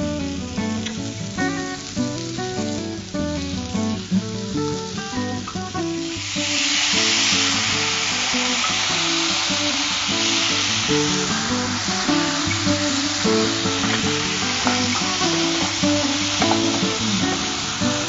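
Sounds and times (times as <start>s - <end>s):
background music with plucked notes: 0.0s - 18.0s
vegetables sizzling in a hot pan: 0.0s - 18.0s.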